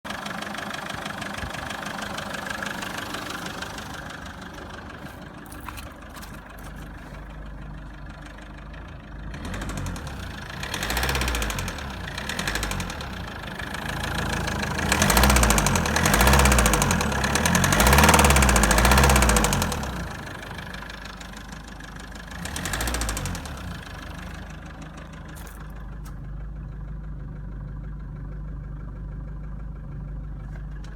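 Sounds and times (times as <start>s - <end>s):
diesel engine knocking and revving: 0.0s - 30.9s.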